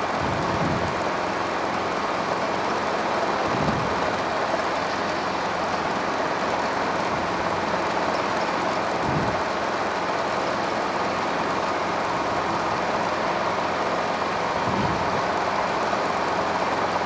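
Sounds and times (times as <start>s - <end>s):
helicopter engine and rotor noise: 0.0s - 17.0s.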